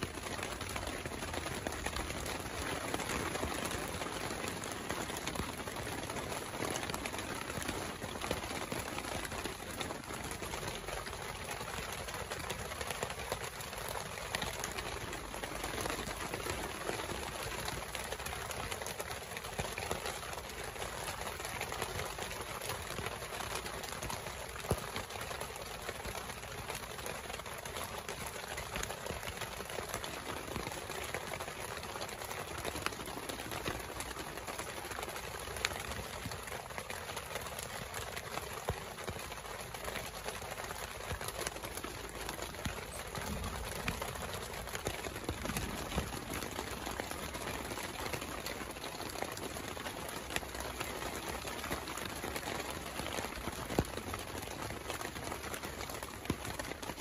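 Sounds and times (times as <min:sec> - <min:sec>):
heavy rain on a tent: 0:00.0 - 0:57.0.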